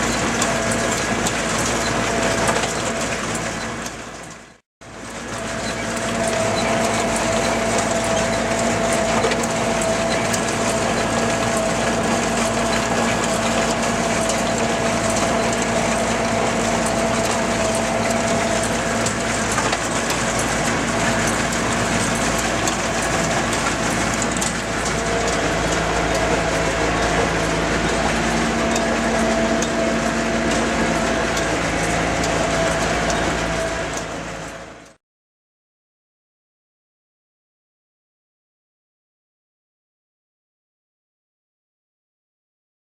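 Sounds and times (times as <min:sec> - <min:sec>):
gear whine: 0:00.0 - 0:35.0
tractor engine running: 0:00.0 - 0:35.0.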